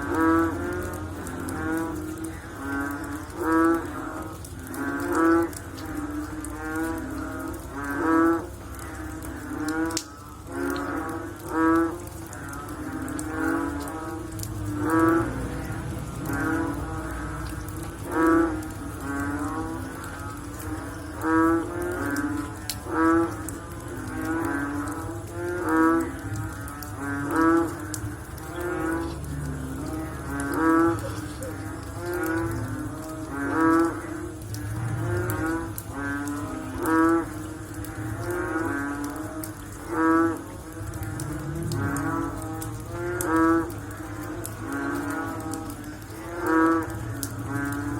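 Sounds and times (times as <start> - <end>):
frogs croaking: 0.0 - 47.9.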